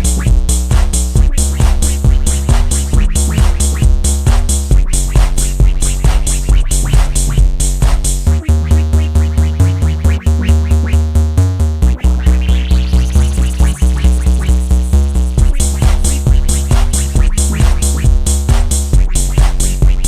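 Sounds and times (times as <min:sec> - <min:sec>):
electronic music with heavy bass: 0:00.0 - 0:20.0
rising synth sweep: 0:00.0 - 0:20.0.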